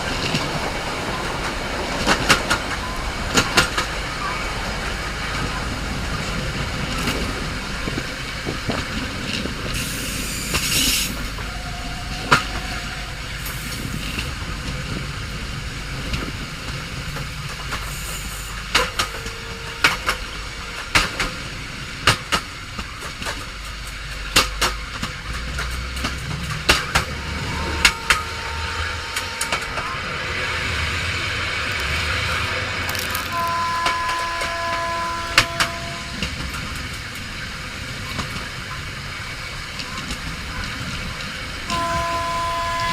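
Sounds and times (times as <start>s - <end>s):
wheels clanking on rail joints: 0.0s - 37.3s, 38.1s - 42.9s
train rumbling on rails: 0.0s - 42.9s.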